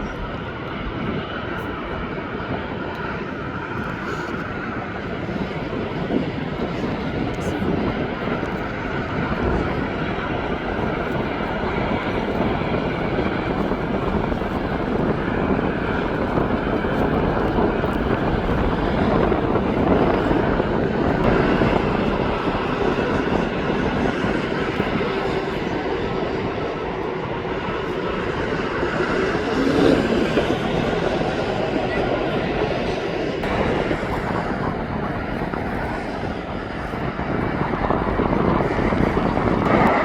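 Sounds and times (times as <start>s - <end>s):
jet engines running: 0.0s - 40.0s.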